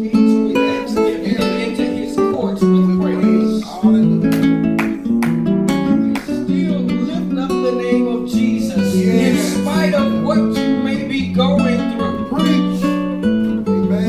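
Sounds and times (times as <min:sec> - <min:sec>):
guitar chords: 0:00.0 - 0:14.0.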